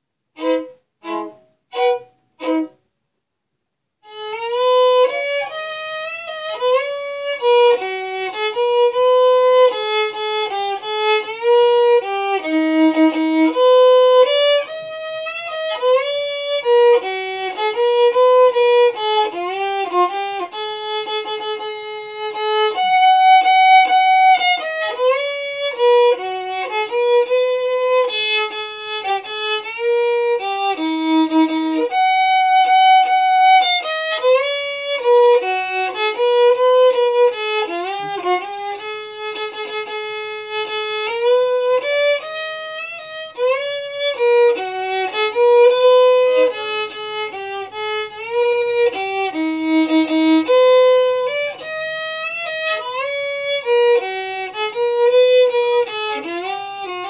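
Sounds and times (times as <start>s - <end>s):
fiddle melody: 0.0s - 2.9s, 4.0s - 57.0s.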